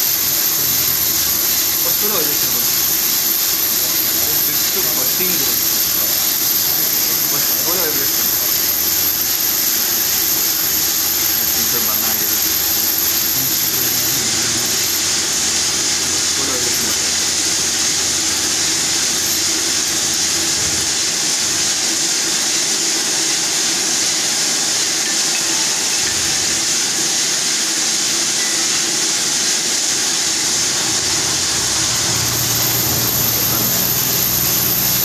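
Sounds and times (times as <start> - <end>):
coolant spray and cutting hiss: 0.0 - 35.0
high machine whine: 0.0 - 35.0.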